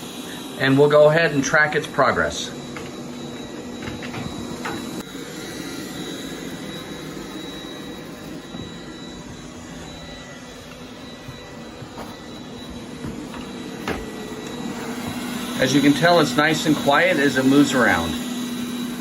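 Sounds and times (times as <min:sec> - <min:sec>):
robot vacuum whirring: 0:01.6 - 0:19.0.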